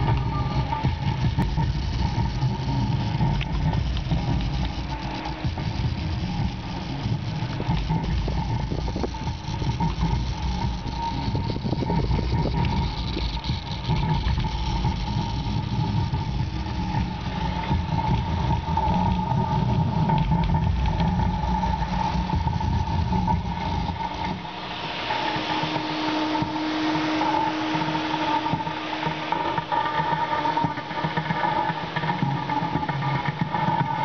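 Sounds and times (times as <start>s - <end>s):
deep bass rumble from subwoofer: 0.0s - 34.0s
steady higher tone: 0.0s - 34.0s.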